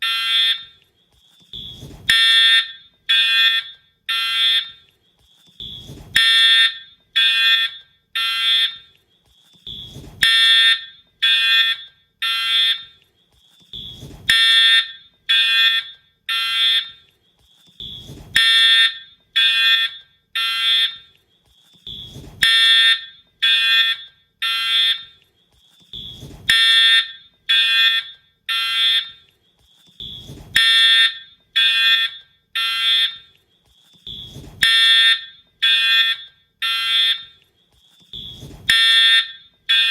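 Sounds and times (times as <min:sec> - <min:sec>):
fire alarm horn blasts: 0:00.0 - 0:00.8, 0:01.5 - 0:04.9, 0:05.6 - 0:09.0, 0:09.6 - 0:13.0, 0:13.7 - 0:17.1, 0:17.8 - 0:21.2, 0:21.8 - 0:25.2, 0:25.9 - 0:29.3, 0:30.0 - 0:33.4, 0:34.0 - 0:39.9.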